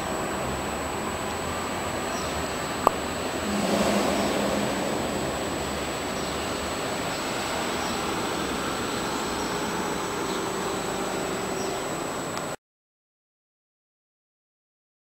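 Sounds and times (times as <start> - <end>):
distant traffic rumble: 0.0 - 12.6.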